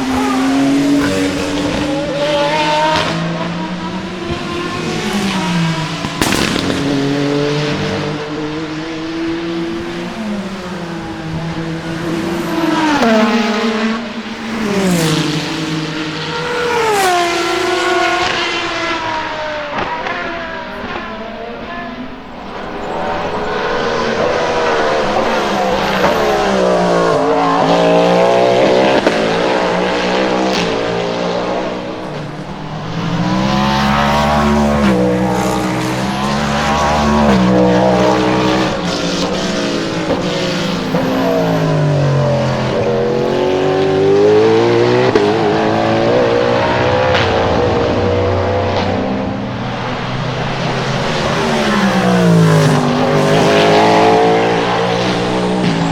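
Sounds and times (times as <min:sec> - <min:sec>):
race car engine shifting gears: 0:00.0 - 0:55.9.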